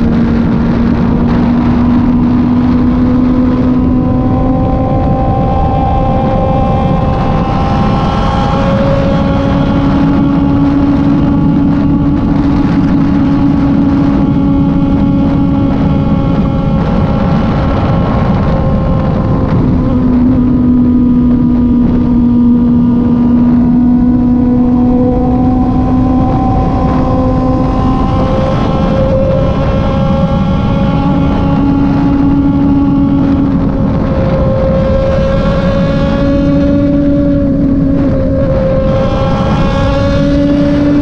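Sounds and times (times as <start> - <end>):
motorcycle engine running: 0.0 - 41.0
wind rush and road noise: 0.0 - 41.0.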